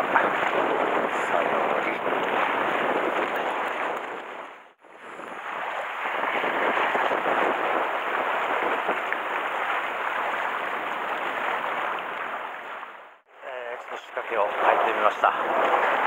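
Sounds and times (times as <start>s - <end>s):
sea waves washing on rocks: 0.0s - 13.0s, 14.3s - 16.0s
wind on microphone: 0.0s - 16.0s.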